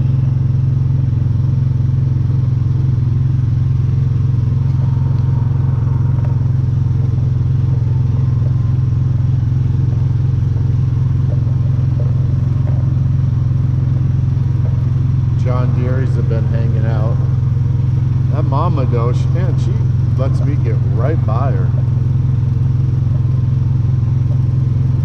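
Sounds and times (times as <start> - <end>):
utility vehicle engine droning: 0.0 - 25.0.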